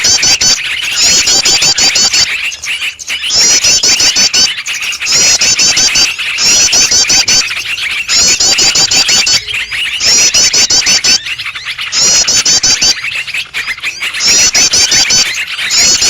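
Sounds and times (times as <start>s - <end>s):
songbirds chattering and ticking: 0.0s - 16.0s.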